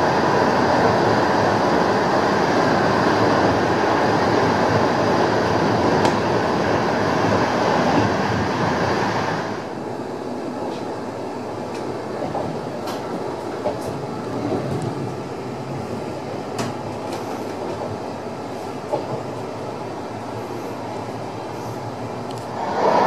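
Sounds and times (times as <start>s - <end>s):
freight train passing: 0.0s - 23.0s
train wheels rumbling on rail: 0.0s - 23.0s.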